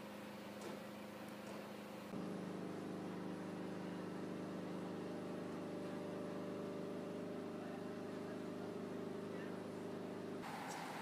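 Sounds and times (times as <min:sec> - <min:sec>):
diesel engine idling: 0:02.1 - 0:11.0.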